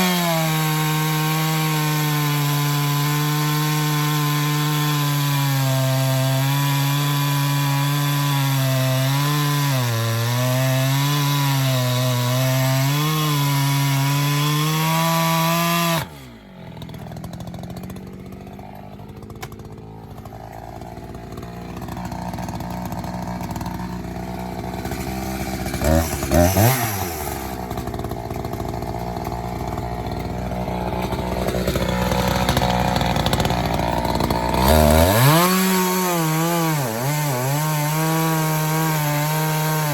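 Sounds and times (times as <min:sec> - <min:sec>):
chainsaw cutting log: 0:00.0 - 0:39.9
chainsaw idling: 0:00.0 - 0:39.9.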